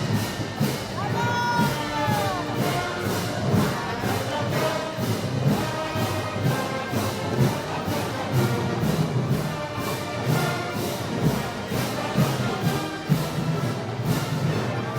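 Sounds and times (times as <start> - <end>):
brass band music: 0.0 - 14.9
percussion beat: 0.0 - 14.9.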